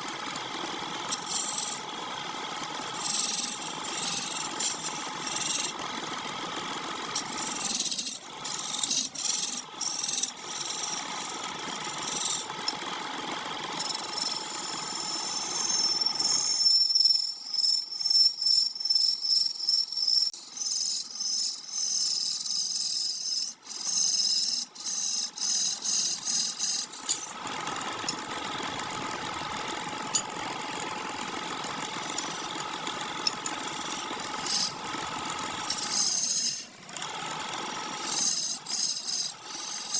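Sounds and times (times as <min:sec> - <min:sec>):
wood lathe running: 0:00.0 - 0:16.5, 0:22.2 - 0:39.9
tool scraping spinning wood: 0:00.0 - 0:39.9.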